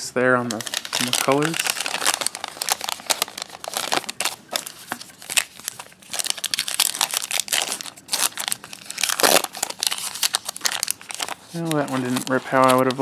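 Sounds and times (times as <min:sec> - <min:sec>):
foil wrapper crinkling and tearing: 0:00.4 - 0:13.0.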